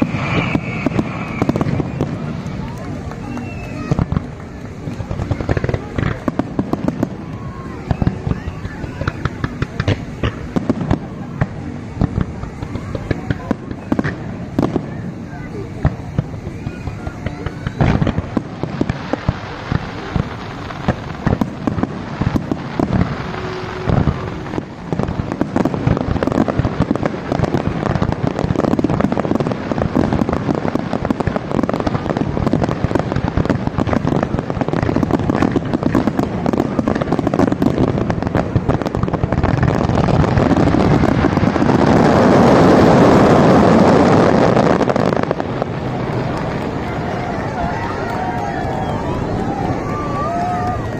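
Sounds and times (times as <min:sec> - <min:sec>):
fireworks crackling: 0:00.0 - 0:50.9
fireworks sharp bangs: 0:00.0 - 0:50.9.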